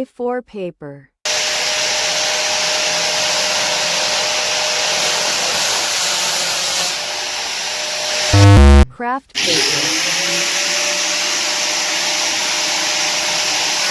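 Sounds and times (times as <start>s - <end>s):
electric grinder on paper: 1.3s - 8.8s, 9.4s - 13.9s.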